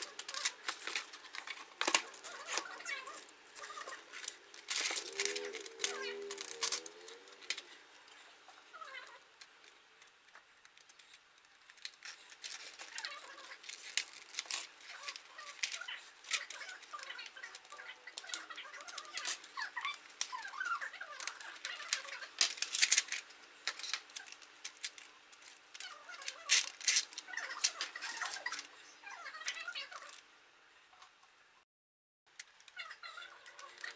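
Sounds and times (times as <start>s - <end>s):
squeaky plastic creaks: 0.0s - 30.2s, 32.4s - 33.9s.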